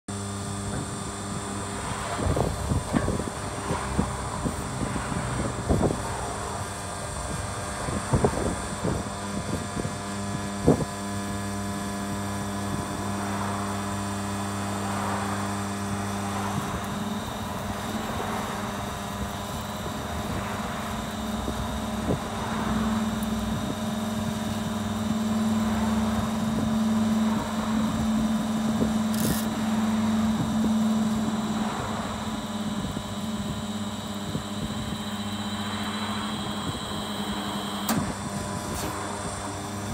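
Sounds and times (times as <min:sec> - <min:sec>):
hydraulic press humming: 0:00.1 - 0:39.9.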